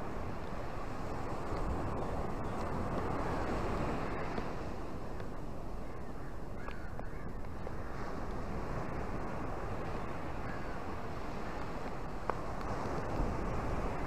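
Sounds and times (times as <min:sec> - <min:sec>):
waves breaking on beach: 0:00.0 - 0:05.8, 0:07.4 - 0:14.0.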